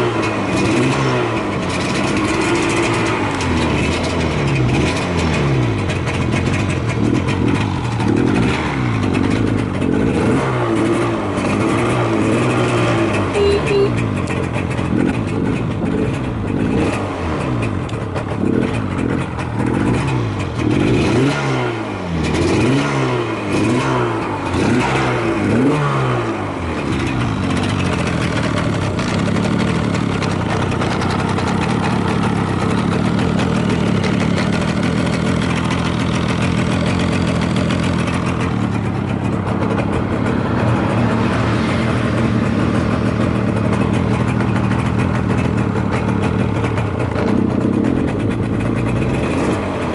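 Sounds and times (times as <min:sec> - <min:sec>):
motorcycle engine revving and idling: 0:00.0 - 0:49.9.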